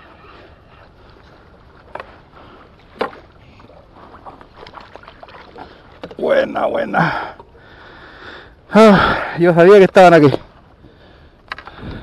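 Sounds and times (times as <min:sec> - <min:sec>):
faint water and wind noise: 0:00.0 - 0:12.0.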